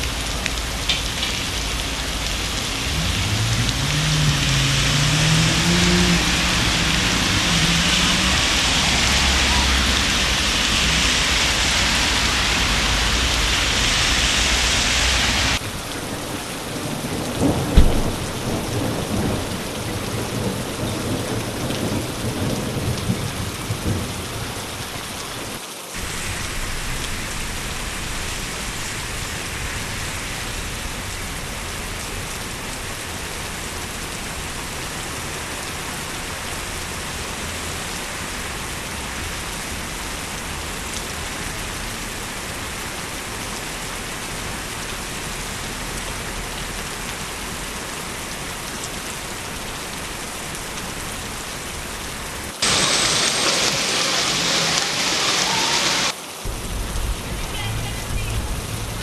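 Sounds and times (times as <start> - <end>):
heavy rain pouring: 0.0 - 59.0
thunder rumbling: 0.0 - 59.0.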